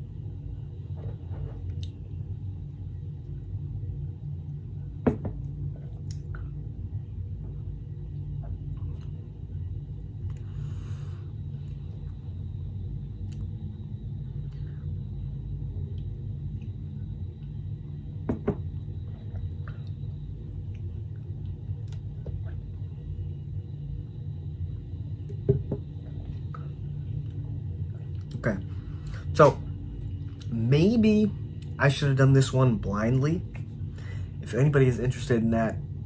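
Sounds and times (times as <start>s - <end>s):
low room hum: 0.0s - 36.0s.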